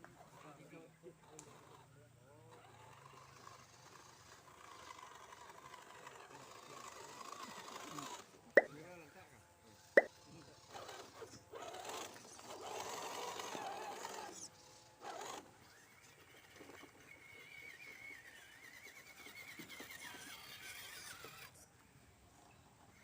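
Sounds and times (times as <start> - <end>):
small electric motor whine: 0.0 - 23.0.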